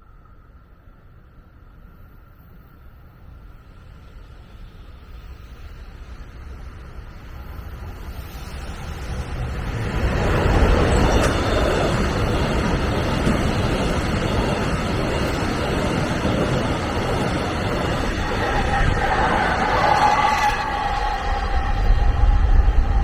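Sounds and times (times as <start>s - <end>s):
train wheels on rails: 2.4s - 23.0s.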